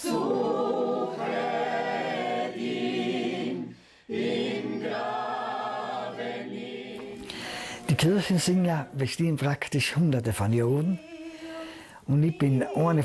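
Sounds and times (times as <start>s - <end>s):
group singing unaccompanied church melody: 0.0s - 9.9s, 10.7s - 13.0s.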